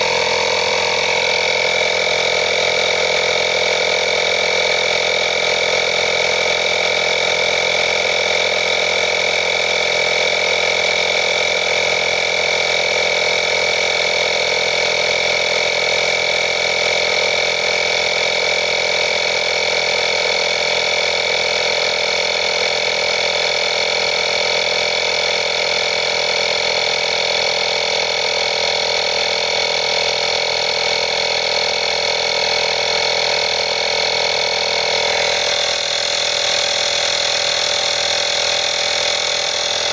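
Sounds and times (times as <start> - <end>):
electric tyre inflator pump droning: 0.0 - 39.9.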